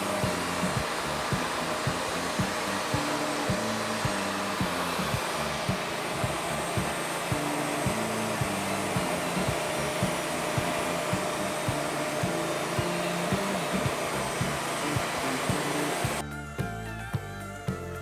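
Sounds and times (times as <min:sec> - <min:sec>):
bandsaw cutting a log: 0:00.0 - 0:16.3
background music with a beat: 0:00.0 - 0:18.0.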